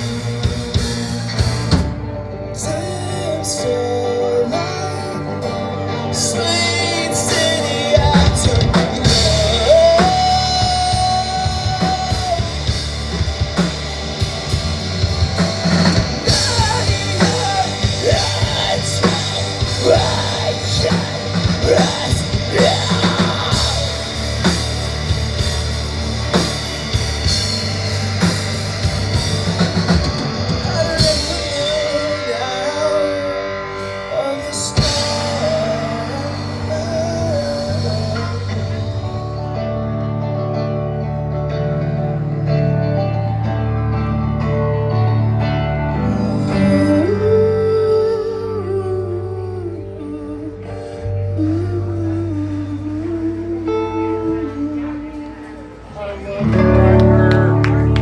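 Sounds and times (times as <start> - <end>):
heavy drums and bass: 0.0 - 40.3, 51.5 - 58.0
live rock band playing: 0.0 - 58.0.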